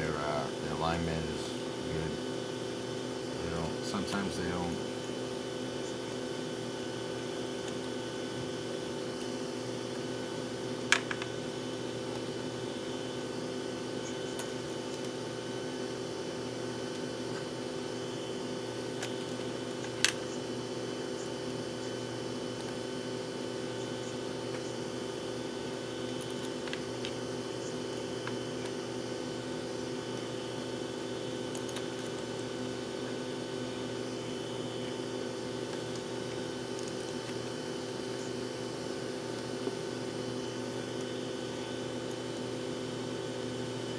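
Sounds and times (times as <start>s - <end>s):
fan humming: 0.0s - 43.9s.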